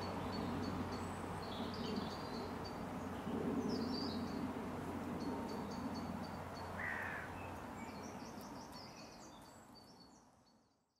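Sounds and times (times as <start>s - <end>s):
small birds chirping: 0.0s - 4.5s, 5.2s - 10.9s.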